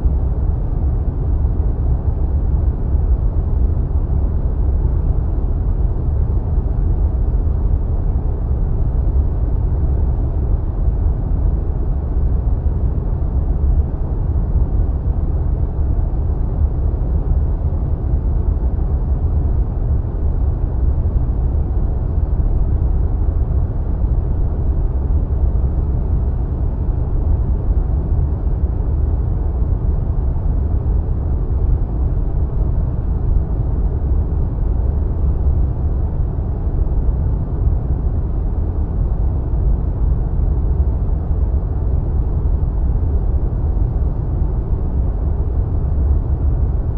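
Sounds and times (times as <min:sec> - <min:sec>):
deep wind noise: 0:00.0 - 0:46.9.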